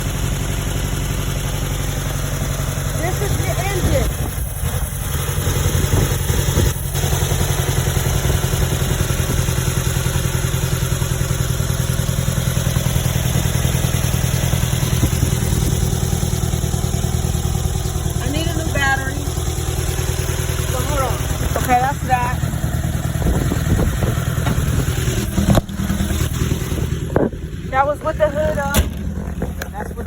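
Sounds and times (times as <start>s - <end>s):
car engine idling with pulsing beat: 0.0s - 30.0s.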